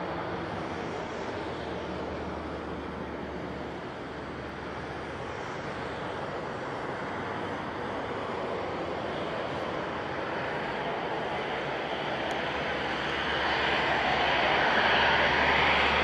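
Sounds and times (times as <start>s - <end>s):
jet engines at low power: 0.0s - 16.0s.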